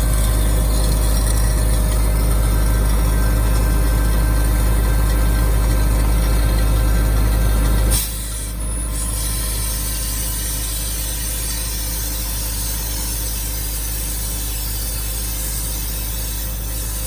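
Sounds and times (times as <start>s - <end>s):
air compressor clatter with hiss: 0.0s - 17.0s
deep drone: 0.0s - 17.0s.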